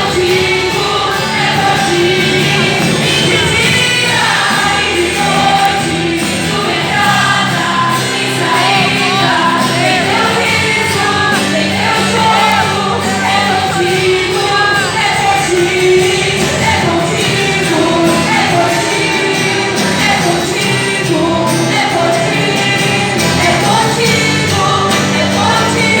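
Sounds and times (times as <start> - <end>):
gospel music with singing: 0.0 - 26.0.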